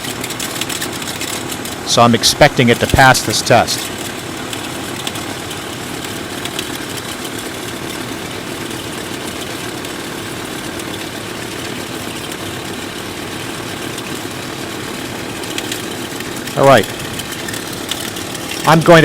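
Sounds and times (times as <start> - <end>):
alternator noise: 0.0 - 19.0
pickup engine idling: 0.0 - 19.0.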